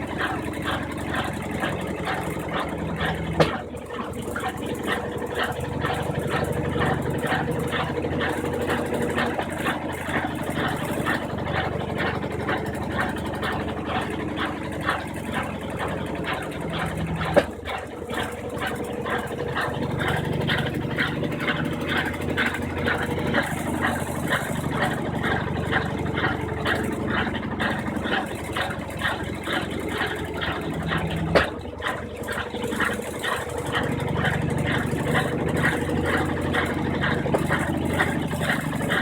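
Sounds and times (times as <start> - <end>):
washing machine running: 0.0 - 39.0.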